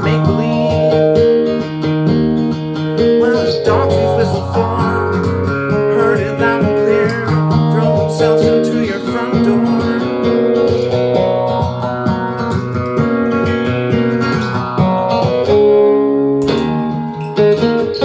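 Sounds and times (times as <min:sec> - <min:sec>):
strummed guitar chords: 0:00.0 - 0:18.0.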